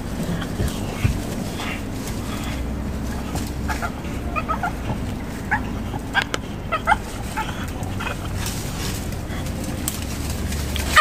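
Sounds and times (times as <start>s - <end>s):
dog whining: 0.2s - 9.8s.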